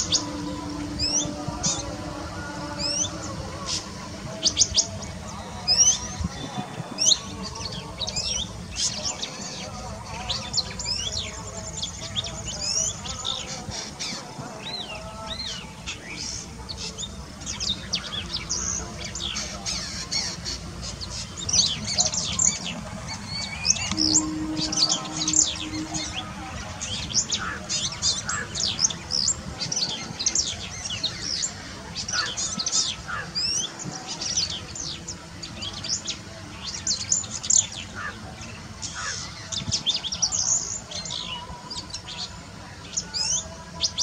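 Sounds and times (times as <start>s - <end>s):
small birds chirping chorus: 0.0s - 44.0s.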